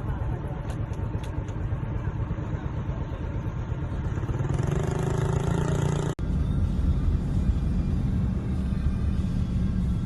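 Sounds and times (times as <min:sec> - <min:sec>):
engine running with low rumble: 0:00.0 - 0:10.0.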